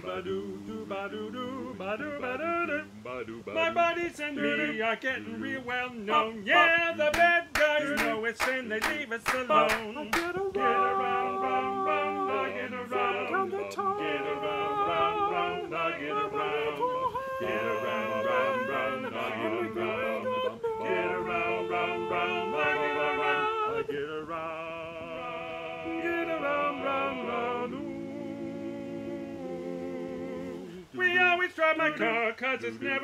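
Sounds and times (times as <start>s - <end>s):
male choir singing a cappella: 0.0s - 33.0s.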